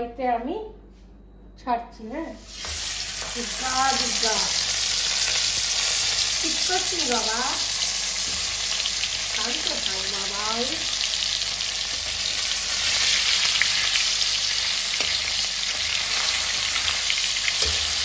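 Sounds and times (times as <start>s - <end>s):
fish sizzling in hot oil: 2.4s - 18.0s.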